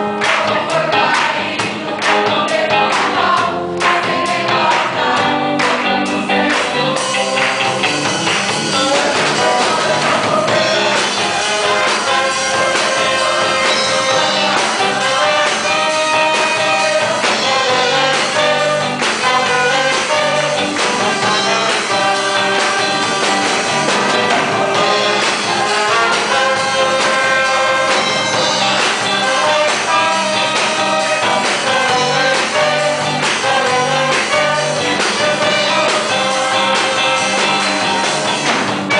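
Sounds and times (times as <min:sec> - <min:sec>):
group singing a hymn: 0:00.0 - 0:38.4
instrumental accompaniment: 0:00.0 - 0:38.9.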